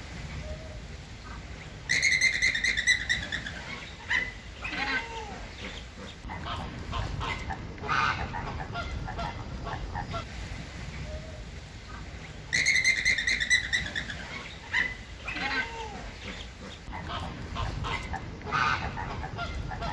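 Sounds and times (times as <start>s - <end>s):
flamingos honking: 1.2s - 10.4s, 11.0s - 19.9s.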